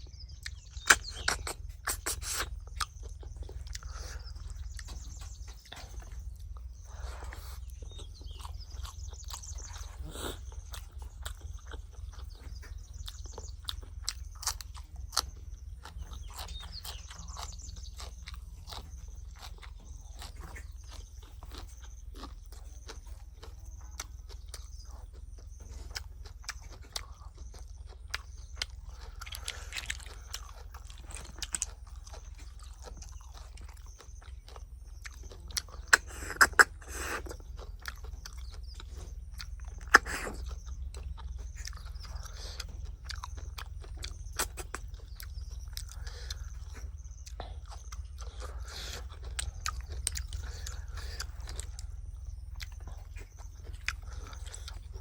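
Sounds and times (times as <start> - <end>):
chewing and crunching: 0.0 - 55.0
steady low hum: 0.0 - 55.0.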